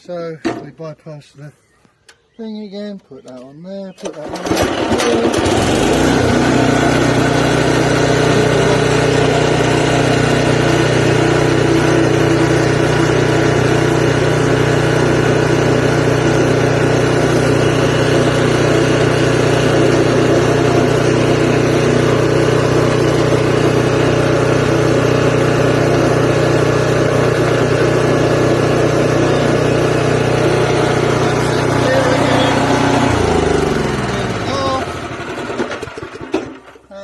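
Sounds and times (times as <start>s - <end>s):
wood chipper engine running: 4.0s - 37.0s.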